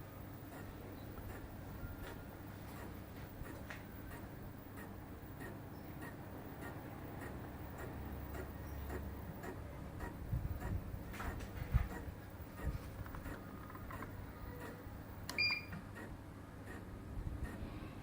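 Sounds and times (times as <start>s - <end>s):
fan ticking: 0.0s - 17.6s
electric fan humming: 0.0s - 18.0s.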